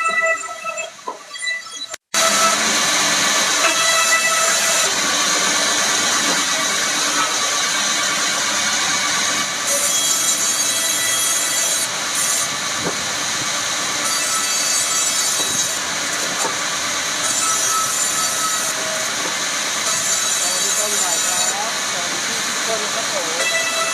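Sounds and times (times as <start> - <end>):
woodworking machine cutting wood: 2.1 - 23.9.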